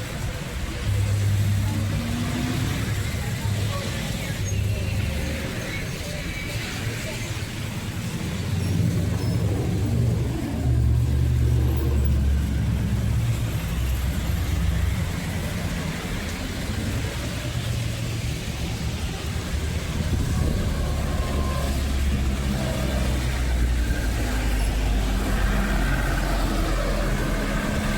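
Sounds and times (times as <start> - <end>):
motor vehicle rumbling: 0.0 - 27.9.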